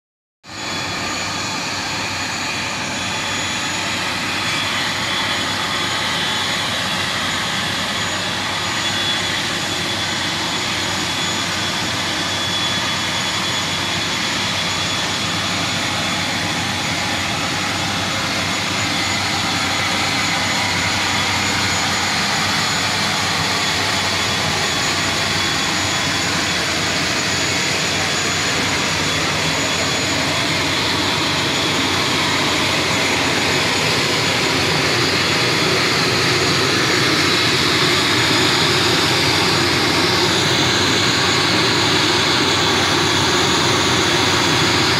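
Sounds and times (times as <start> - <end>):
turbine engine idling: 0.5 - 44.9.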